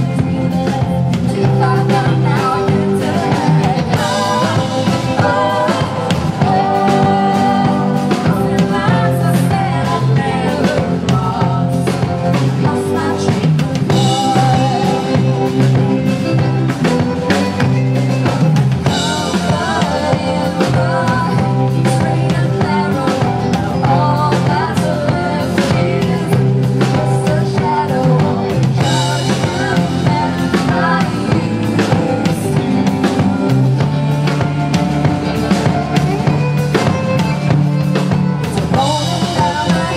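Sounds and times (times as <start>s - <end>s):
woman singing into microphone: 0.0s - 16.8s, 18.8s - 36.8s, 38.4s - 39.9s
band drums and bass: 0.0s - 39.9s.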